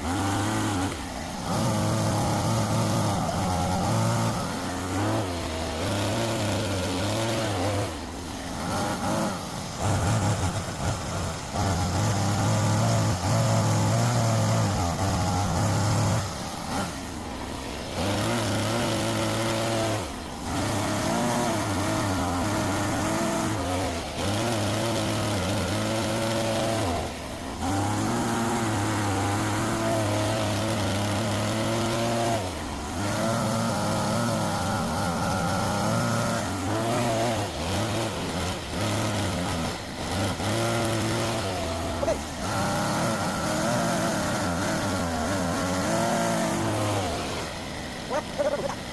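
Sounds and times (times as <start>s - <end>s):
toy excavator motor running: 0.0s - 48.9s.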